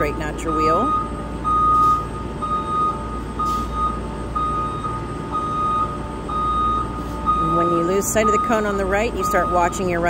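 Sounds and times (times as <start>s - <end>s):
bus engine running: 0.0s - 10.0s
reverse alarm beeping: 0.0s - 10.0s.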